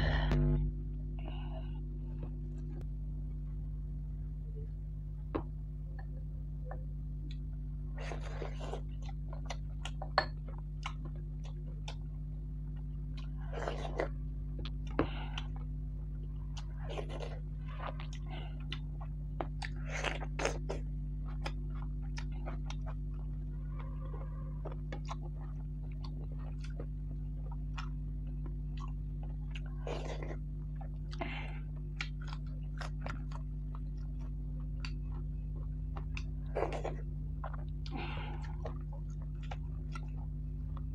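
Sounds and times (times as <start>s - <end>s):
low hum: 0.0s - 40.9s
chewing and crunching: 5.4s - 40.9s.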